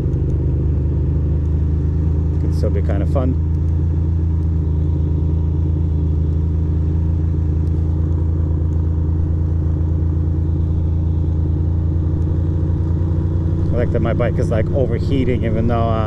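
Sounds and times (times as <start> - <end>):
motorcycle engine running at low revs: 0.0 - 16.0.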